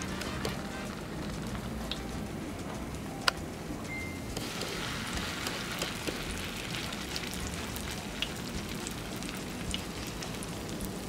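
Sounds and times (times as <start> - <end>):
batter frying in hot oil: 0.0 - 3.1, 4.3 - 11.0.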